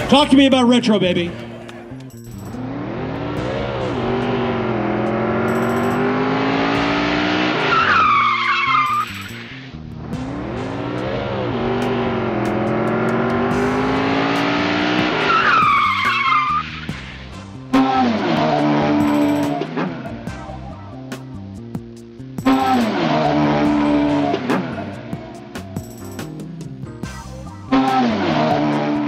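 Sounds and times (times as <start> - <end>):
tires squealing: 1.3 - 20.3, 22.4 - 25.8, 27.7 - 29.0
car engine under load: 1.4 - 20.4, 22.4 - 27.0.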